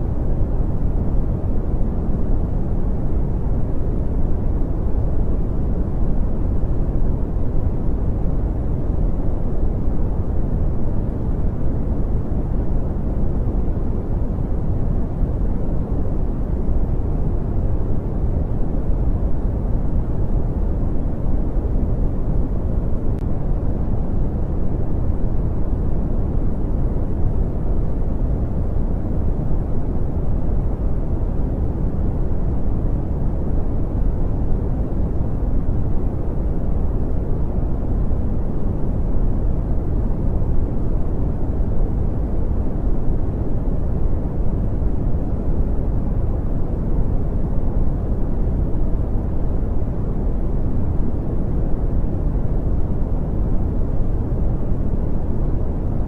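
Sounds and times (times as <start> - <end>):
deep rumbling brown noise: 0.0 - 56.0.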